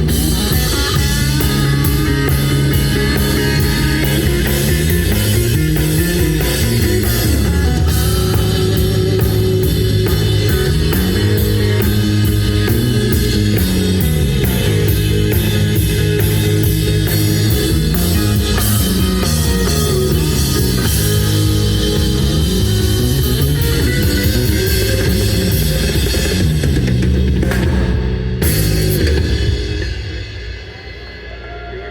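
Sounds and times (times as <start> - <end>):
bass line: 0.0 - 30.9
drum kit with cymbal beat: 0.0 - 31.9
electric guitar: 0.0 - 31.9.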